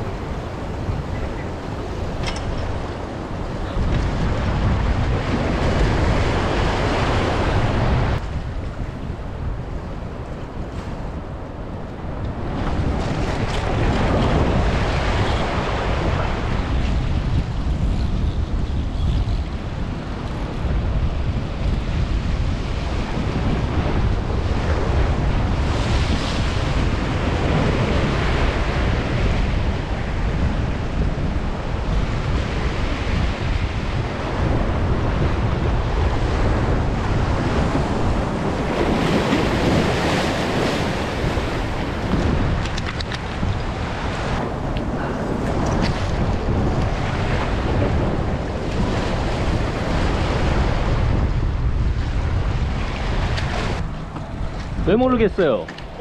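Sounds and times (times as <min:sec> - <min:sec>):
sea waves surging against rocks: 0:00.0 - 0:18.6, 0:19.4 - 0:56.0
wind buffeting microphone: 0:00.0 - 0:56.0.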